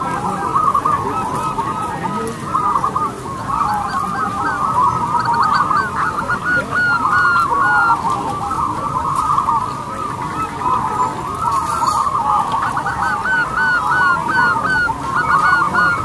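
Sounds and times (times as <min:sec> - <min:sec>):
doves cooing in chorus: 0:00.0 - 0:16.0.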